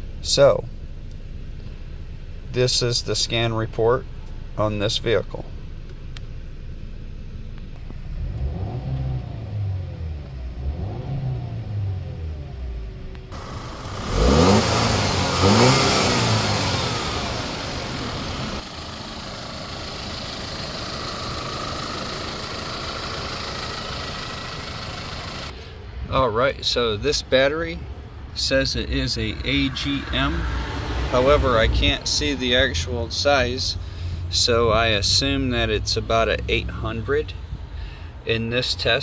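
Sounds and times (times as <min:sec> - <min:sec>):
car engine revving and idling: 0:00.0 - 0:39.0.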